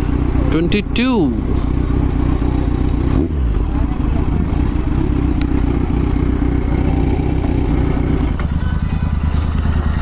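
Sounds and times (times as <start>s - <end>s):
motorcycle engine idling: 0.0s - 10.0s
other motorcycles idling: 0.0s - 10.0s.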